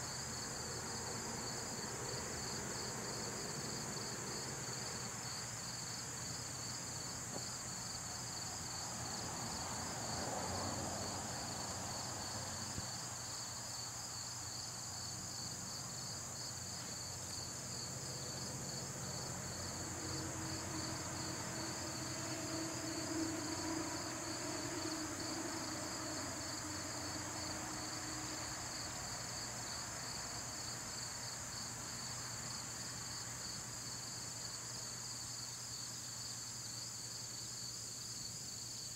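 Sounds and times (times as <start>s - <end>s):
insect chorus trilling: 0.0s - 38.9s.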